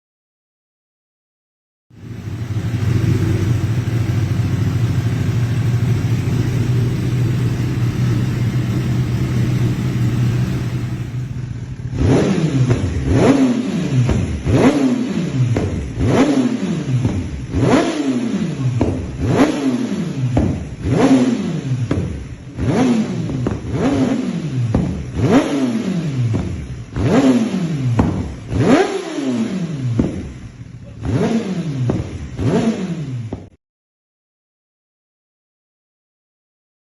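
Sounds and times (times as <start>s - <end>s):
motorcycle engine idling and revving: 1.9s - 33.6s.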